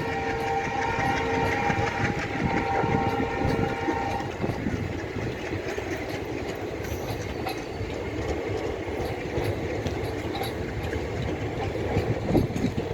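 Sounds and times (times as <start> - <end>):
passenger train rumble: 0.0 - 12.9
wheels clattering over rail joints: 0.0 - 12.9.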